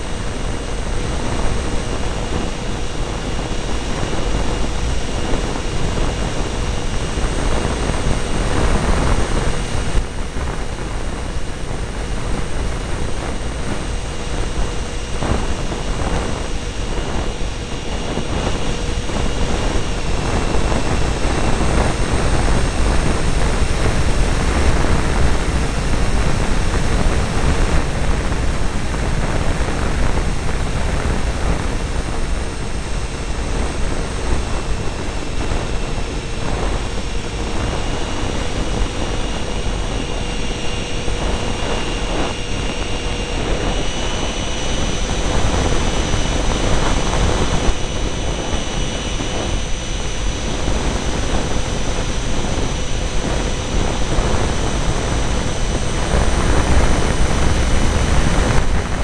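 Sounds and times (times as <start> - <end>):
electric ducted fans whining: 0.0 - 59.0
wind rush: 0.0 - 59.0.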